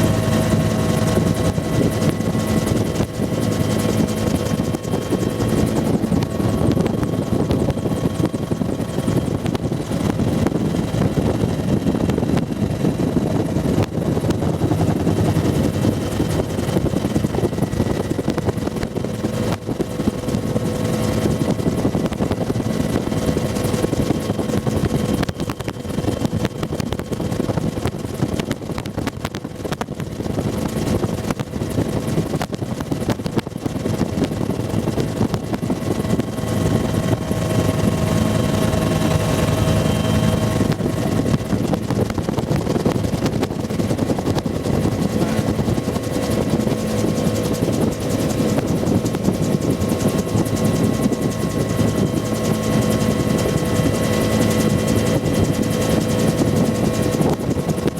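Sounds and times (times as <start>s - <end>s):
constant whine: 0.0s - 57.9s
helicopter rotor and turbine din: 0.0s - 57.9s.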